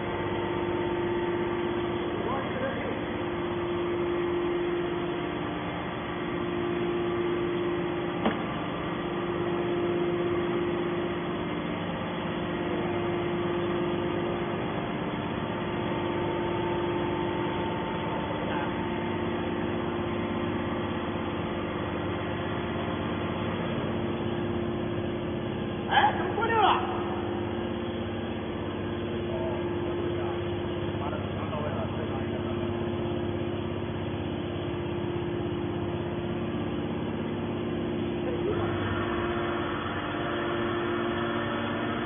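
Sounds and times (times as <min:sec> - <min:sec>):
hydraulic pump motor hum: 0:00.0 - 0:42.0.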